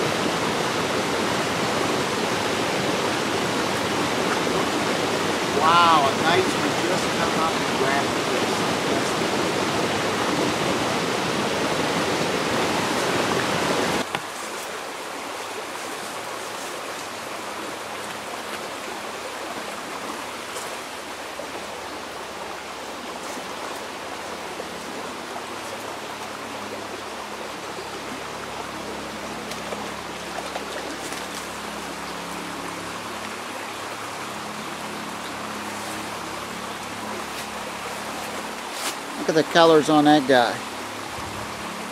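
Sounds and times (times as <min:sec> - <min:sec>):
water flowing over riffle: 0:00.0 - 0:41.9
water rushing over cascade: 0:00.0 - 0:41.9.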